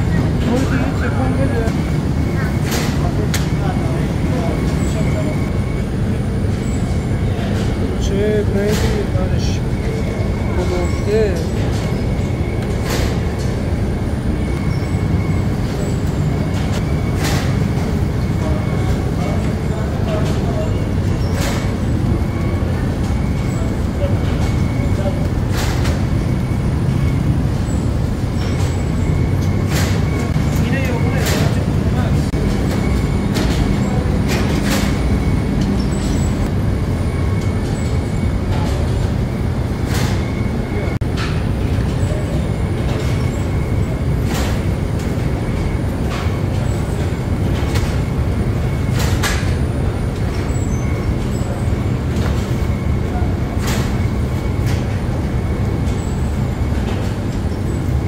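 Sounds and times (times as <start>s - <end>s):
low mechanical rumble: 0.0s - 58.0s.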